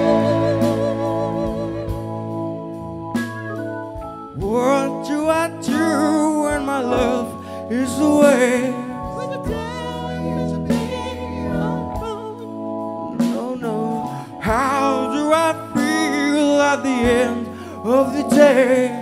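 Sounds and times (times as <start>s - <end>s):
bass: 0.0s - 19.0s
keyboard chords: 0.0s - 19.0s.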